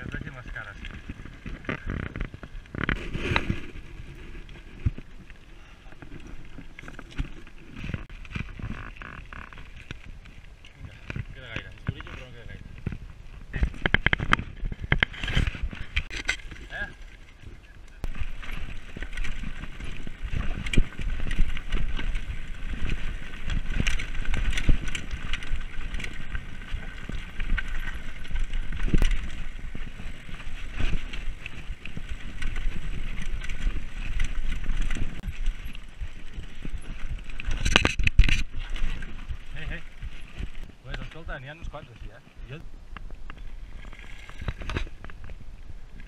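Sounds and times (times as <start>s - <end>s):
bike knocks and rattles: 0.0s - 41.3s
bike tyres rolling on rough ground: 0.0s - 46.0s.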